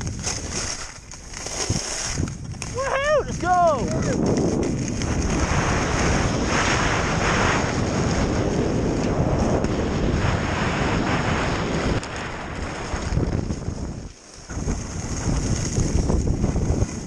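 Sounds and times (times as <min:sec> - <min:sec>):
skis sliding on snow: 0:00.0 - 0:17.0
wind buffeting microphone: 0:00.0 - 0:17.0.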